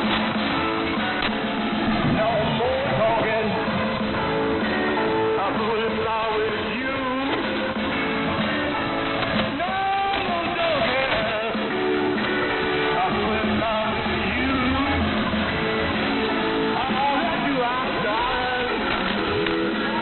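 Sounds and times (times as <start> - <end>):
song with singing and guitar on radio: 0.0 - 20.0.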